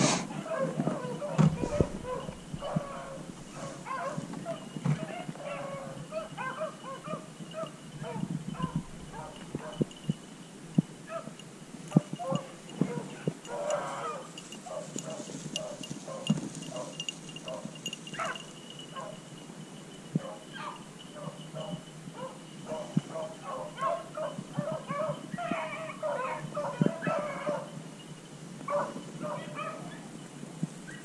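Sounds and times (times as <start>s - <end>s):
beagles baying: 0.2s - 31.0s.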